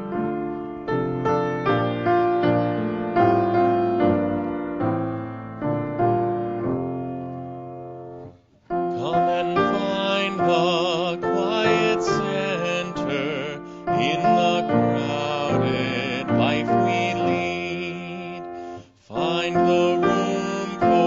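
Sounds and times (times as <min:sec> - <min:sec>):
music: 0:00.0 - 0:21.0
piano playing slow chords: 0:00.0 - 0:21.0.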